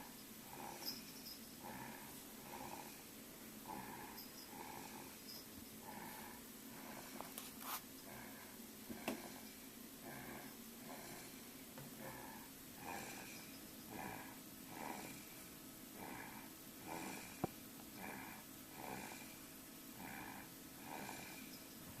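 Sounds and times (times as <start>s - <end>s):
baby snoring softly: 0.0s - 5.3s, 5.9s - 19.4s, 20.0s - 21.6s.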